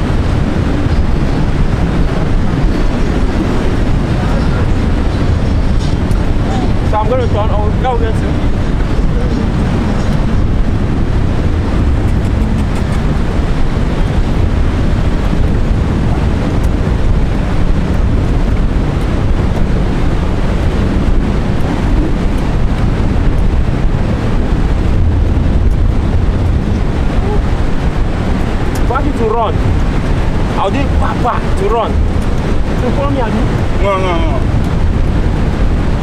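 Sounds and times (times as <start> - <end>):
ocean surf: 0.0 - 36.0
wind rumbling on microphone: 0.0 - 36.0.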